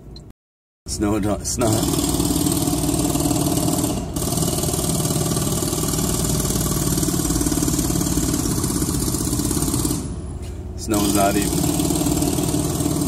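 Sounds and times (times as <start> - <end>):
jackhammer pounding: 1.1 - 13.0.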